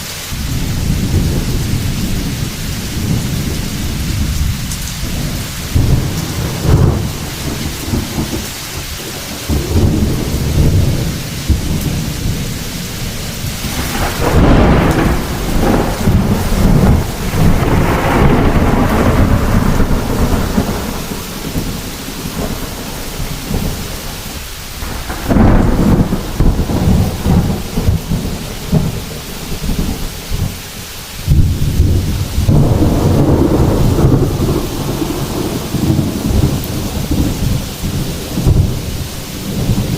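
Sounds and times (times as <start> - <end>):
heavy rain falling: 0.0 - 39.9
rolling thunder: 0.4 - 30.6, 31.2 - 39.9.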